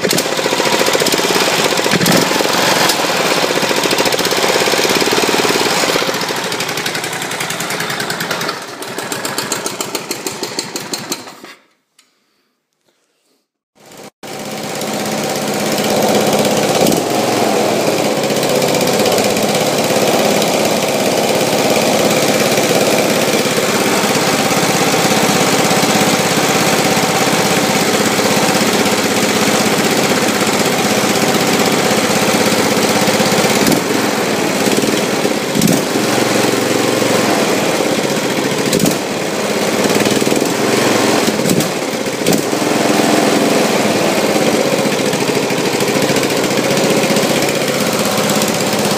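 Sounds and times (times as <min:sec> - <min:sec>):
small engine running: 0:00.0 - 0:11.5, 0:13.8 - 0:48.9.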